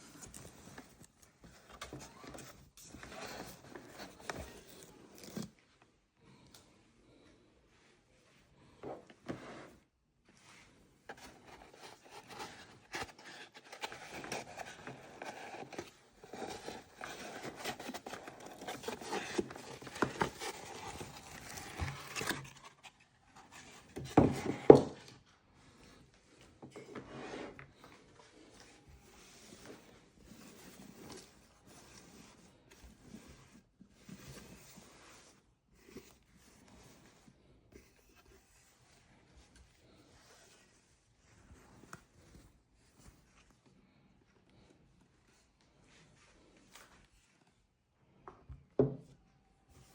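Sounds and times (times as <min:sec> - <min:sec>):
handling noises rubbing and rustling: 0:00.0 - 0:47.9.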